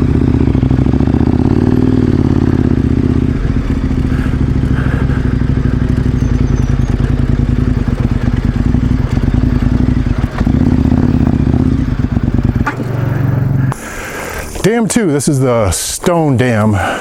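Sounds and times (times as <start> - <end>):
motorcycle engine running: 0.0 - 15.7
motorcycle rattling on rough road: 0.0 - 17.0.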